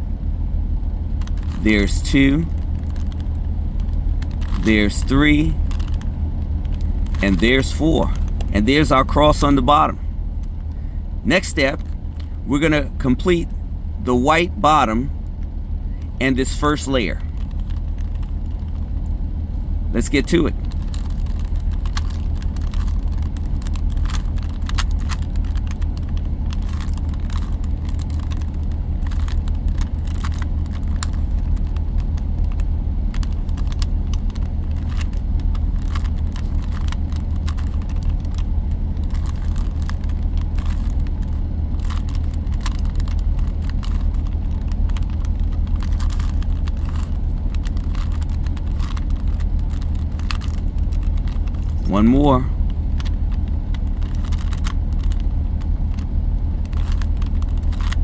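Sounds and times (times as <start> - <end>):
steady low hum: 0.0 - 58.0
puzzle cube clicking: 1.2 - 10.6, 16.0 - 19.2, 20.0 - 58.0.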